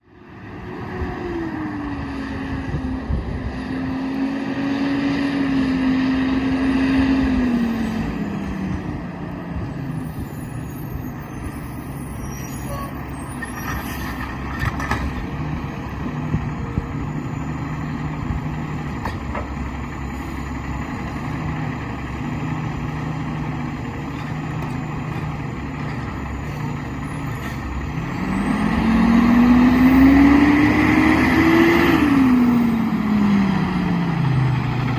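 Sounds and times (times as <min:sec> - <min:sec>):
garbage truck diesel engine: 0:00.0 - 0:34.9.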